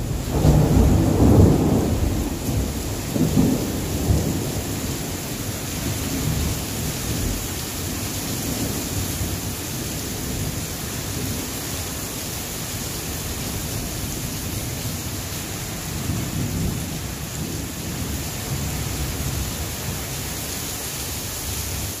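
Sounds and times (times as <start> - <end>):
low rolling thunder: 0.0 - 11.5, 13.2 - 20.0
heavy rain falling: 0.0 - 22.0.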